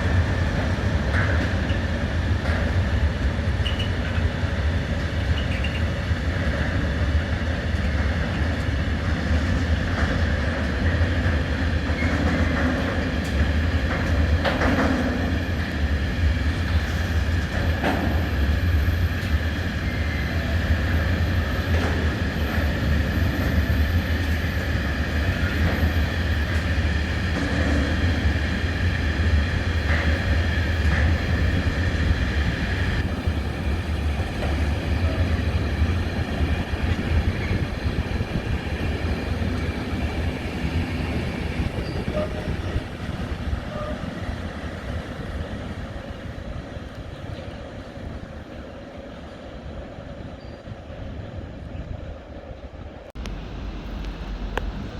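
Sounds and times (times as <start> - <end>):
train rumbling past: 0.0 - 54.9.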